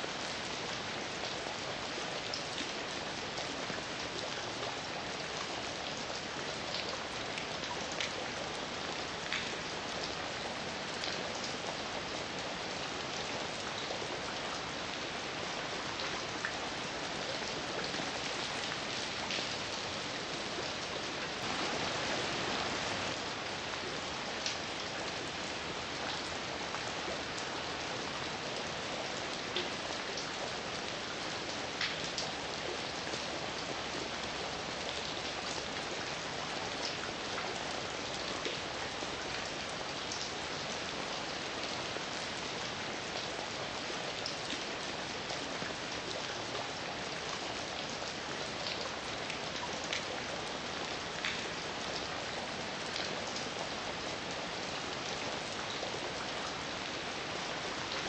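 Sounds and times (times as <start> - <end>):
heavy rain falling: 0.1 - 47.1.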